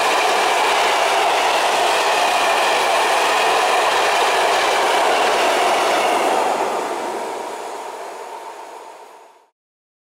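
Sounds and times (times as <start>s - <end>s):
freight train rumble: 0.0s - 9.5s.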